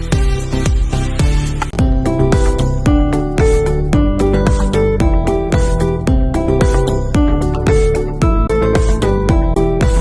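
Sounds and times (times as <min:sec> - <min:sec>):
music with steady beat: 0:00.0 - 0:10.0
plucked guitar notes: 0:01.8 - 0:10.0.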